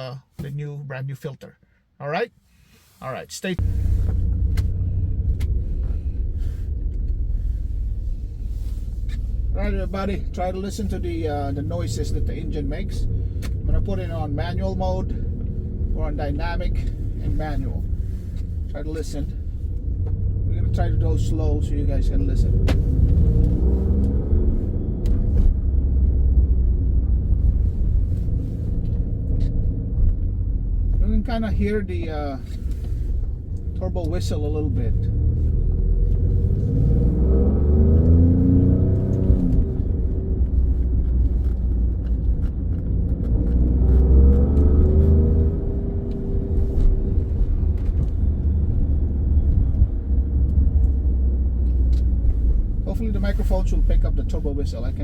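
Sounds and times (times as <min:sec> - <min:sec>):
car engine low rumble: 0:00.0 - 0:55.0.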